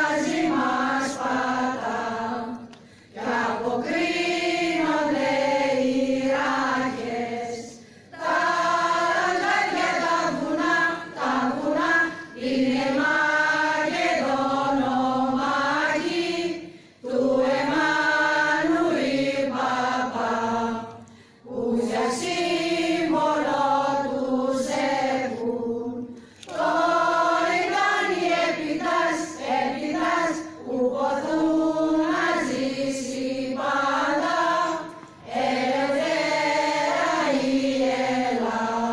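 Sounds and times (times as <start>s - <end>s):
choir singing unaccompanied: 0.0s - 38.9s.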